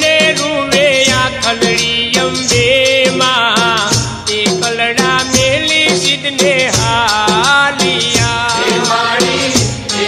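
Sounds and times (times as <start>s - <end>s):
steady percussion beat: 0.0s - 10.0s.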